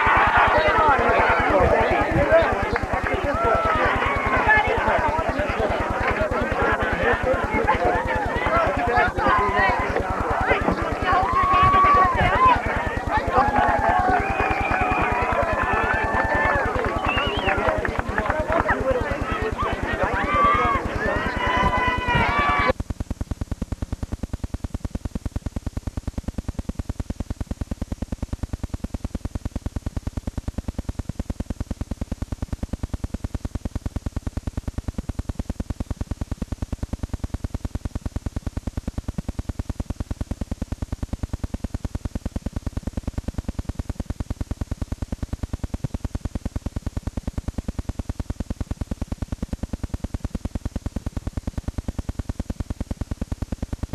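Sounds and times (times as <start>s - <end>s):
rapid buzzing pulse: 0.0s - 53.9s
static hiss: 0.0s - 53.9s.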